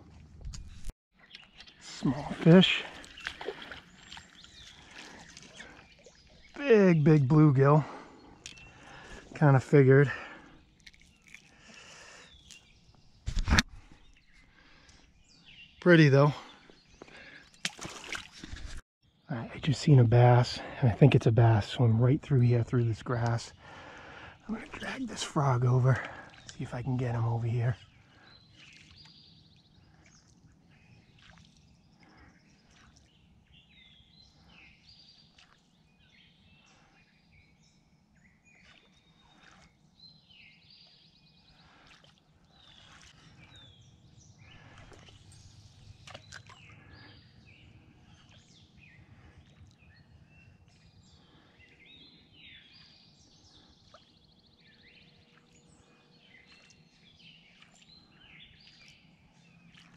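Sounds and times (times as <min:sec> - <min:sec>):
birds chirping and whistling: 0:01.2 - 0:09.4, 0:10.1 - 0:13.2, 0:13.8 - 0:18.3, 0:23.5 - 0:41.9, 0:42.5 - 0:59.9.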